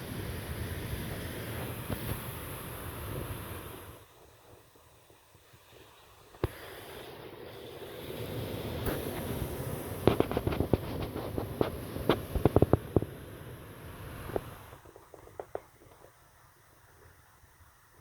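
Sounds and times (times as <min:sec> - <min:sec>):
wind and surf rushing: 0:00.0 - 0:15.6.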